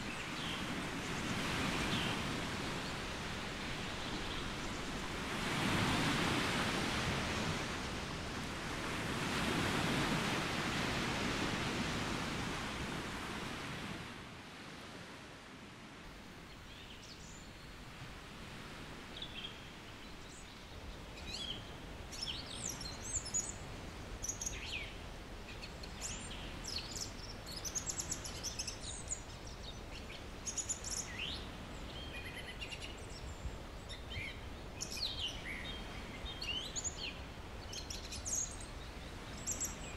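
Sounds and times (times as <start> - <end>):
songbirds chirping: 0.0 - 8.2, 16.1 - 39.9
surf washing on shore: 0.0 - 16.8, 17.7 - 39.9.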